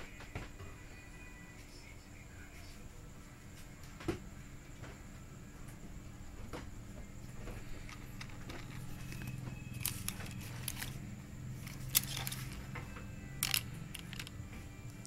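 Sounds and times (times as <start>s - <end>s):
steady low hum: 2.9s - 15.0s.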